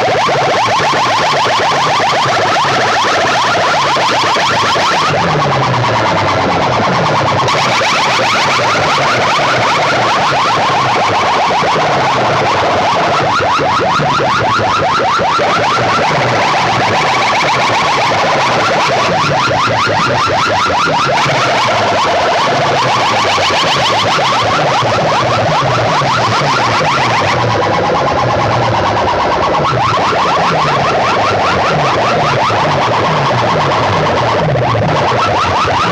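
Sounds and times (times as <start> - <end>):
electronic music with siren-like sweeps: 0.0 - 35.9.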